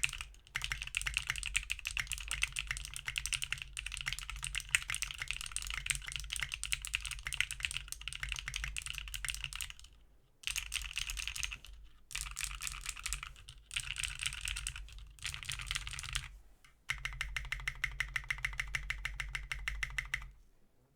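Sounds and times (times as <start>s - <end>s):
fast mechanical keyboard typing: 0.0s - 16.3s, 16.9s - 20.3s.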